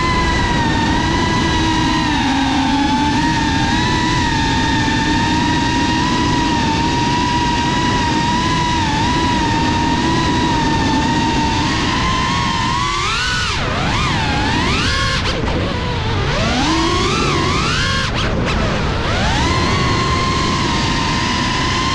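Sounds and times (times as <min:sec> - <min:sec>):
drone motors whining: 0:00.0 - 0:21.9
propeller air rush: 0:00.0 - 0:21.9.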